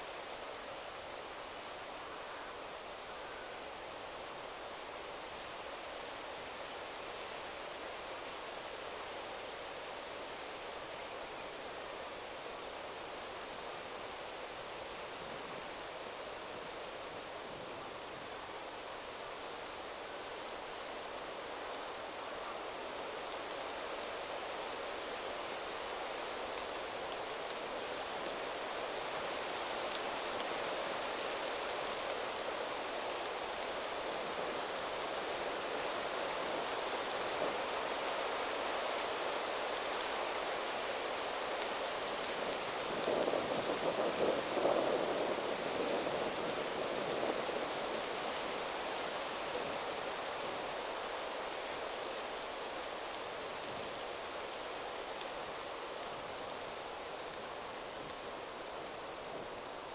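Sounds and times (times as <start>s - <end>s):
wind rustling through leaves: 0.0s - 59.9s.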